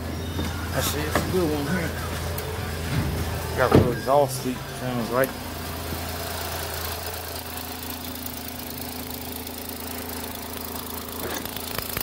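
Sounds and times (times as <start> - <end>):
car engine idling quietly: 0.0 - 12.0.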